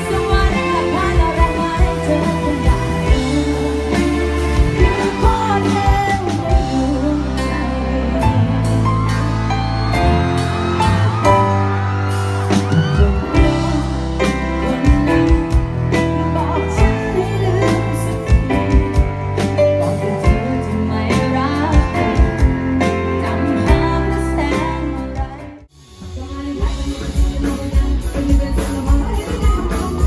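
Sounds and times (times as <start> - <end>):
woman singing into a microphone: 0.0 - 9.3, 12.8 - 19.0, 19.8 - 30.0
live band music: 0.0 - 30.0.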